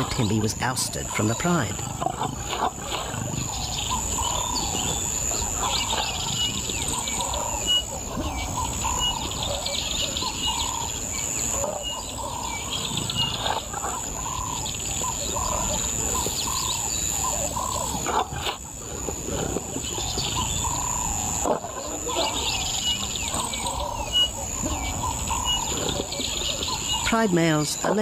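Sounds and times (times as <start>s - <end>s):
wild birds calling and chirping: 0.0s - 28.0s.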